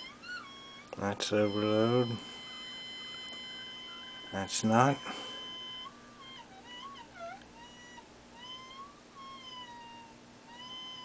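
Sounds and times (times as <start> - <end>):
sine tone sweeping up and down: 0.0 - 11.0.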